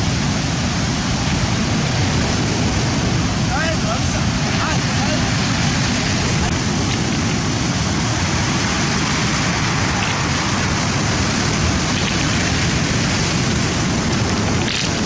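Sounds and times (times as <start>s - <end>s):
roar of rough sea surf: 0.0s - 15.0s.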